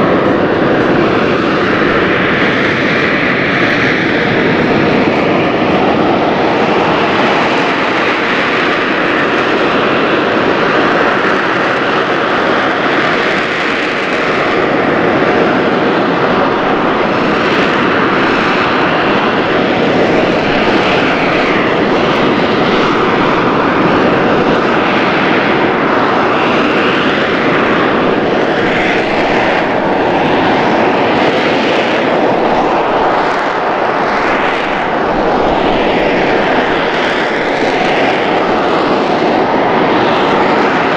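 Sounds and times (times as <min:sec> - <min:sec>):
jet engine running with whine: 0:00.0 - 0:40.9.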